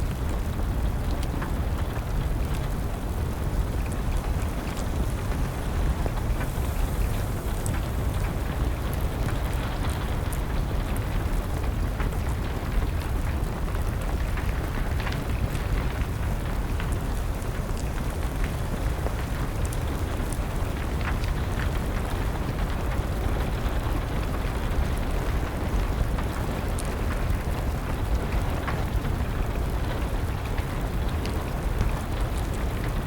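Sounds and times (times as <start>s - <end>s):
steady rain: 0.0s - 33.0s
wood fire popping and crackling: 0.0s - 33.0s.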